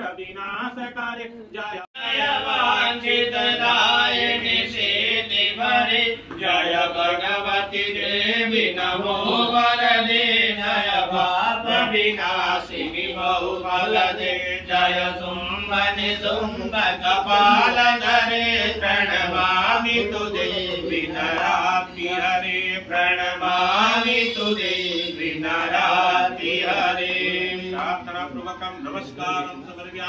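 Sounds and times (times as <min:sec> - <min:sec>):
person chanting: 0:01.9 - 0:29.2.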